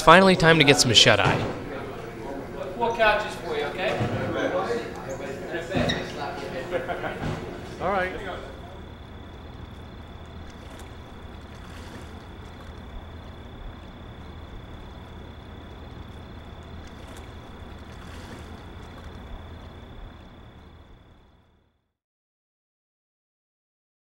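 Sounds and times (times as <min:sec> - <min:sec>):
faint high whine: 0:00.0 - 0:21.8.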